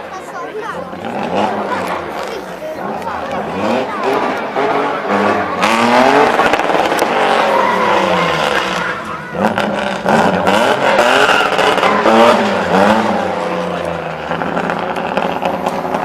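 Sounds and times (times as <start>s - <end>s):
tyres squealing: 0.2s - 16.0s
car engine revving hard: 0.6s - 16.0s.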